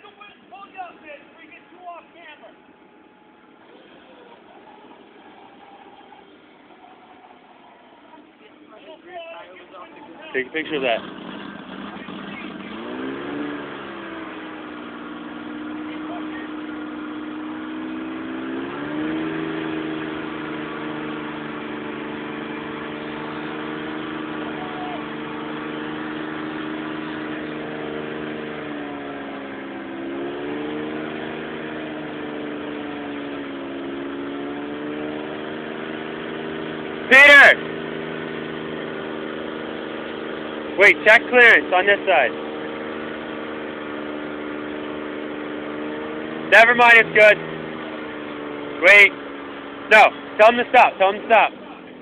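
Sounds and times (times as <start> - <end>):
truck engine revving under load: 0.0 - 52.0.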